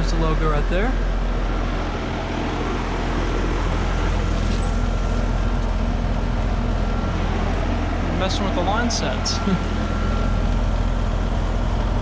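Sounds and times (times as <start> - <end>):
compressor hum: 0.0 - 12.0
condenser fan rushing: 0.0 - 12.0
faint steady whine: 0.0 - 12.0.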